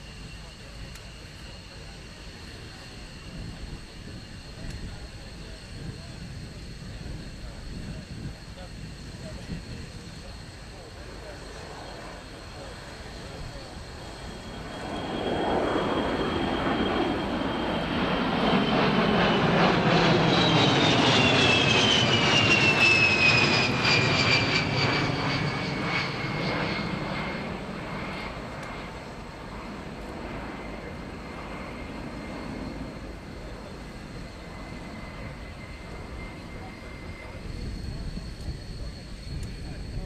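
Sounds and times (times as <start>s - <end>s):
jets passing overhead: 0.0s - 40.0s.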